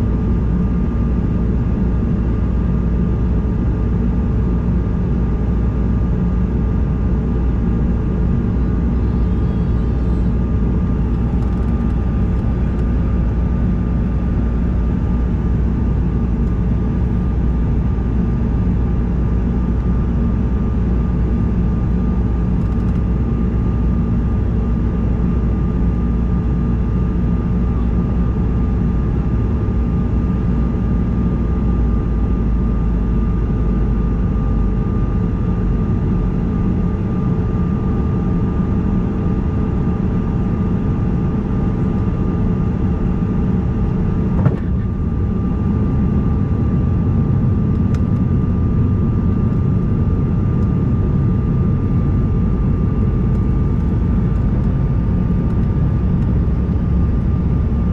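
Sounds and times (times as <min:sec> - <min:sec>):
jet engine drone: 0:00.0 - 0:57.9.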